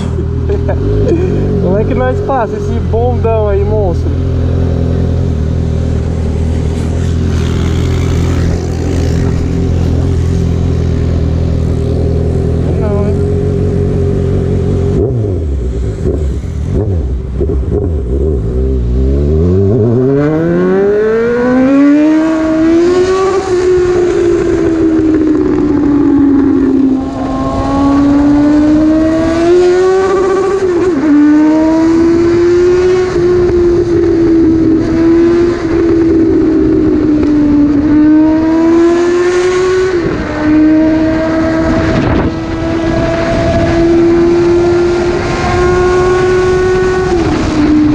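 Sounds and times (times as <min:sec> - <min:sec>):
motorcycle engine accelerating: 0:00.0 - 0:47.9
wind rushing over microphone: 0:02.8 - 0:13.8, 0:14.5 - 0:47.9.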